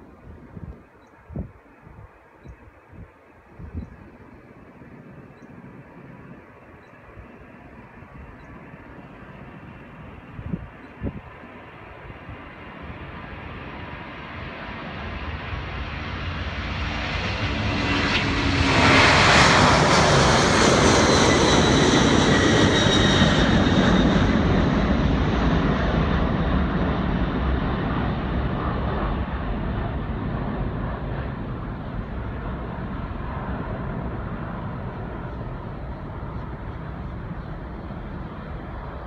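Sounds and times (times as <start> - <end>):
jet engines at takeoff power: 3.8 - 39.0.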